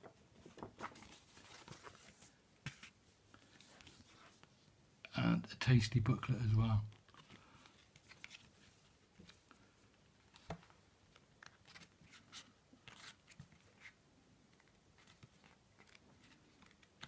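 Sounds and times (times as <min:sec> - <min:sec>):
paper pages rustling: 0:00.0 - 0:04.6, 0:06.9 - 0:17.0.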